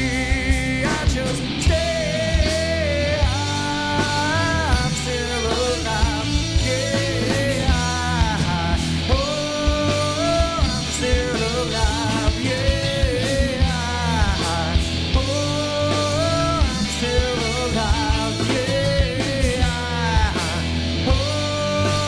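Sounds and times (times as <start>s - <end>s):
bass guitar: 0.0s - 22.0s
drum kit: 0.0s - 22.0s
electric guitars: 0.0s - 22.0s
man singing rock song: 0.0s - 22.0s.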